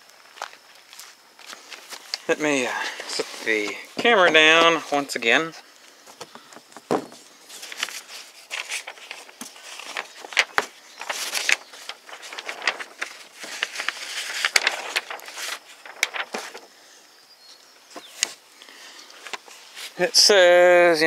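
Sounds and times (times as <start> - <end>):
paper rustling: 1.4 - 16.8, 17.9 - 20.4.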